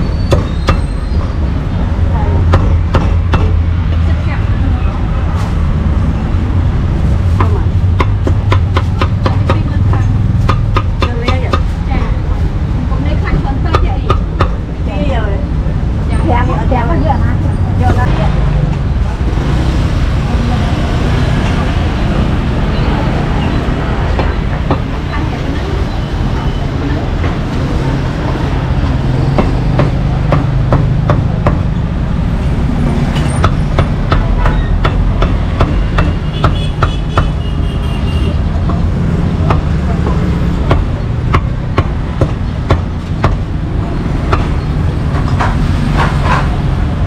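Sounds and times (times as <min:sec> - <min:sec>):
street traffic rumble: 0:00.0 - 0:47.0.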